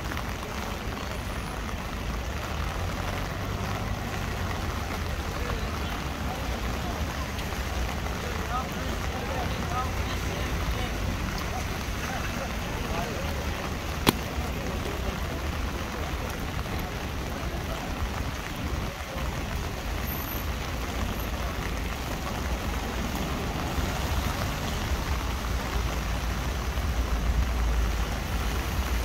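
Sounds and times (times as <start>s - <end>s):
rain on an umbrella: 0.0s - 29.0s.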